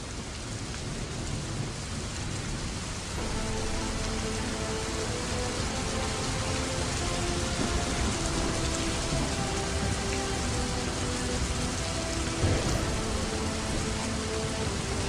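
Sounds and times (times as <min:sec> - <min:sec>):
steady rain: 0:00.0 - 0:15.0
calm ambient music: 0:00.1 - 0:15.0.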